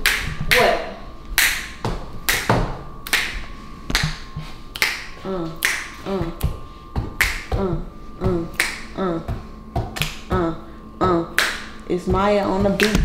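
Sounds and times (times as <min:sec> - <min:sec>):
hip-hop beat with clap hits: 0:00.0 - 0:00.8, 0:01.4 - 0:13.0.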